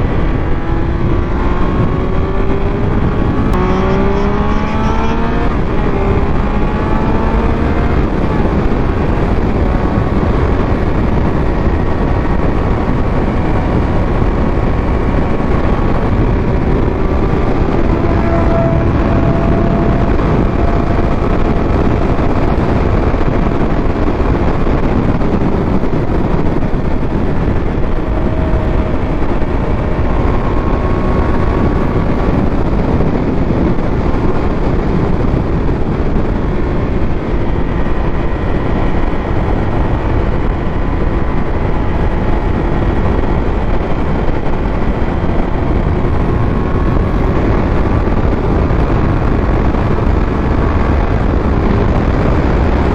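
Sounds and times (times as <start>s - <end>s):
motorcycle engine running: 0.0s - 52.9s
wind rushing over microphone: 0.0s - 52.9s.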